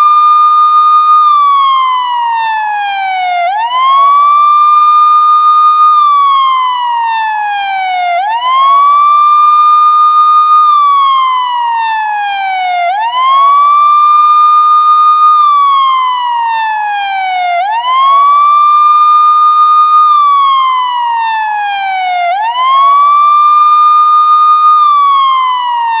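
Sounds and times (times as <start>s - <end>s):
police siren wailing: 0.0s - 26.0s.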